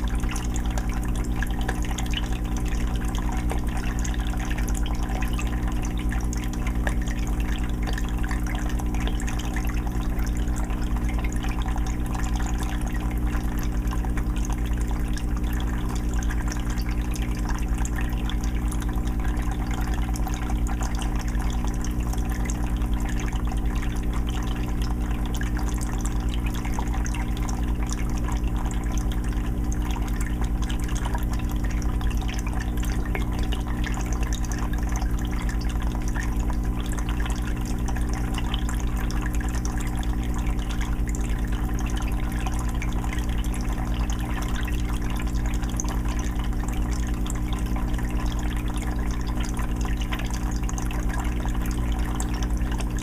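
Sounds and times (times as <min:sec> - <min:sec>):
filter motor hum: 0:00.0 - 0:53.0
water trickling and splashing: 0:00.0 - 0:53.0.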